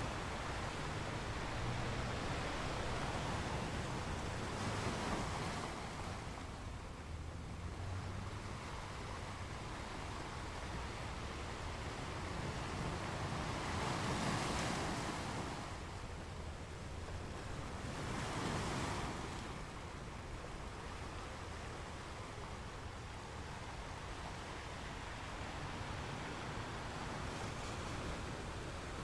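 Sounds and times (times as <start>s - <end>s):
ocean waves on beach: 0.0s - 29.0s.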